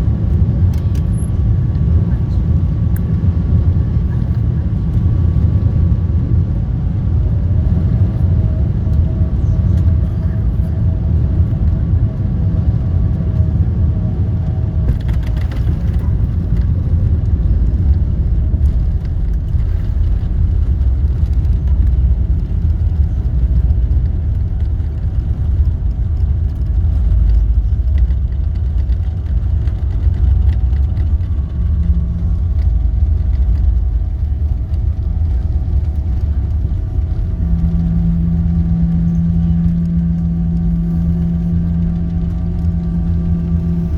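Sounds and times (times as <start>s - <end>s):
aircraft cabin low rumble: 0.0s - 43.9s
faint steady whine: 0.0s - 43.9s.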